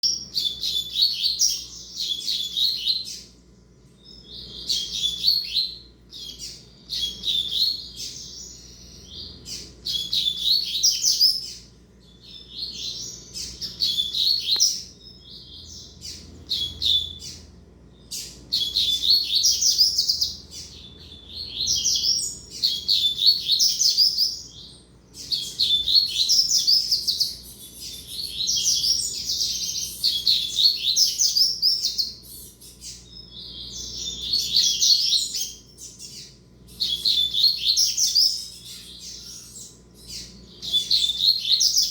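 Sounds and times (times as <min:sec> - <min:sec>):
bird twittering song: 0:00.0 - 0:41.9.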